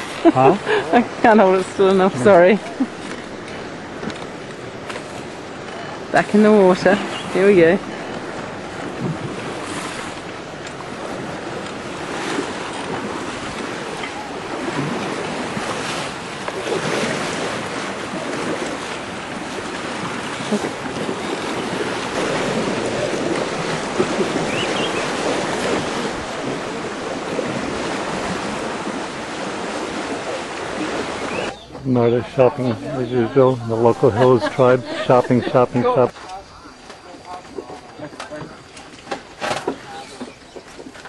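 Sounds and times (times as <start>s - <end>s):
wind on microphone: 0.0s - 36.8s
water splashing and sloshing: 0.0s - 41.0s.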